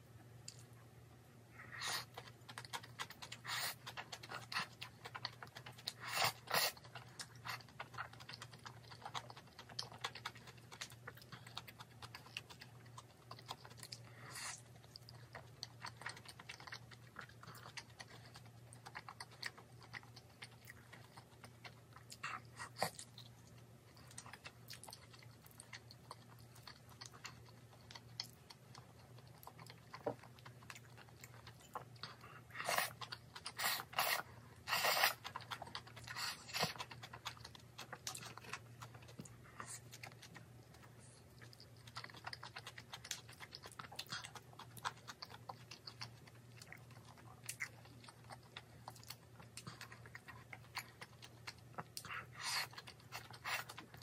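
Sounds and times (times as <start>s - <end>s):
low steady hum: 0.0s - 54.0s
chewing and slurping noodles: 1.6s - 54.0s.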